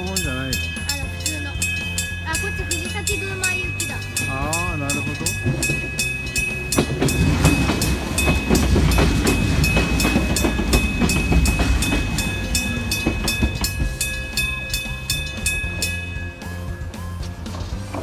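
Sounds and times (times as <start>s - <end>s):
level crossing alarm bell: 0.0s - 17.3s
clattering train wheels: 0.0s - 18.0s
electric train passing: 0.0s - 18.0s.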